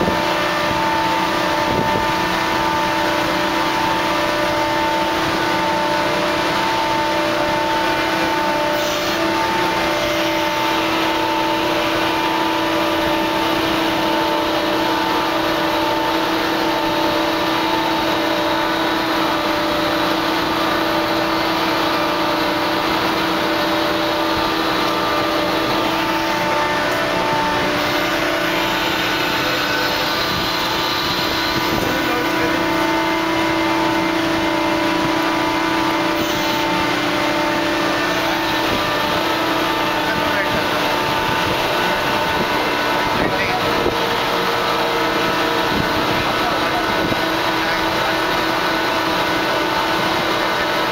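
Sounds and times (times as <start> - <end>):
machinery droning: 0.0 - 50.9
pulsing high tone: 0.0 - 50.9.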